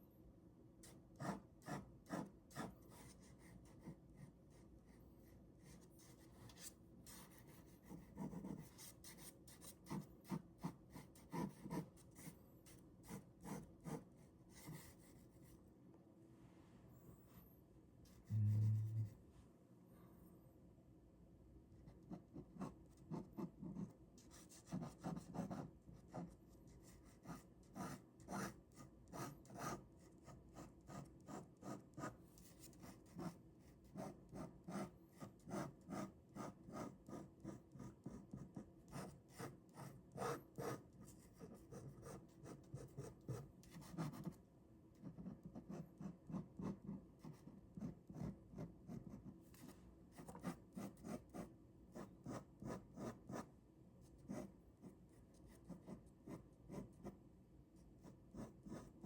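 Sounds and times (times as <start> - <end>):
pen scratching on paper: 0.8 - 4.3, 5.6 - 15.4, 21.9 - 44.4, 45.0 - 49.4, 50.1 - 53.5, 54.2 - 57.2, 58.0 - 59.0.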